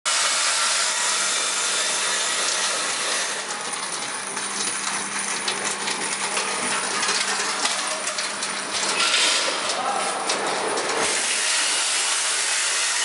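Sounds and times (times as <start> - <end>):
machine humming and hissing: 0.1 - 13.0.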